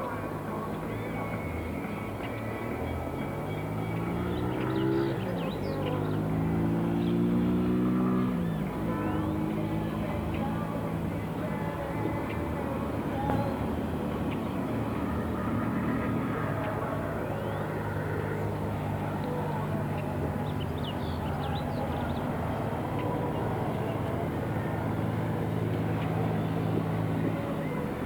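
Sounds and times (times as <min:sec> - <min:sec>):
low engine hum: 0:00.0 - 0:28.0.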